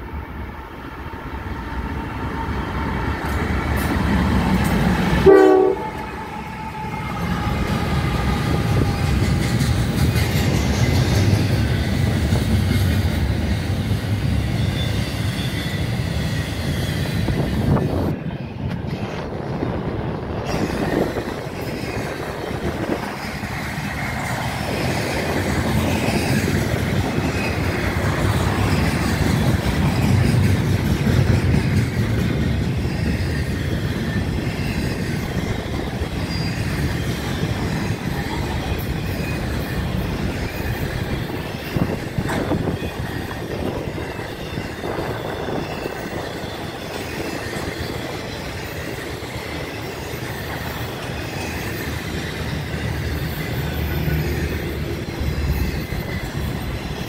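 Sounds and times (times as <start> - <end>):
train wheels rumbling on rails: 0.0 - 57.0
wheels clacking over rail joints: 7.1 - 17.7, 20.4 - 57.0.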